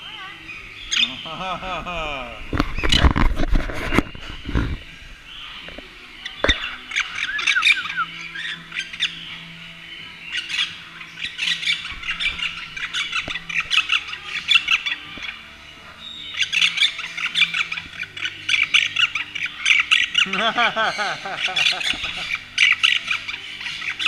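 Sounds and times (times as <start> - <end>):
pet birds chirping and squawking: 0.0 - 24.0.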